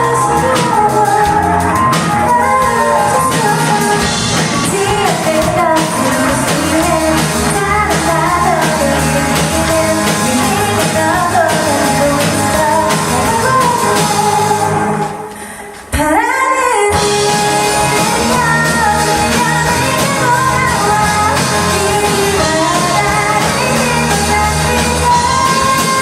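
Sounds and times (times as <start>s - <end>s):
drums beating: 0.0s - 26.0s
person singing: 0.0s - 26.0s
rock band playing: 0.0s - 26.0s.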